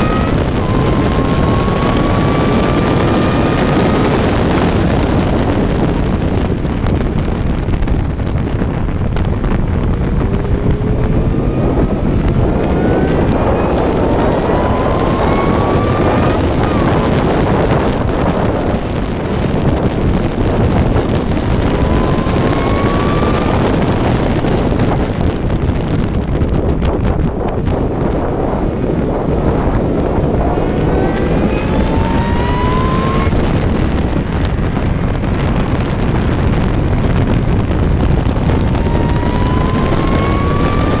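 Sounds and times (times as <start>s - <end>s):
racing engine revving through gears: 0.0s - 26.1s, 27.5s - 41.0s
wind buffeting microphone: 0.0s - 41.0s.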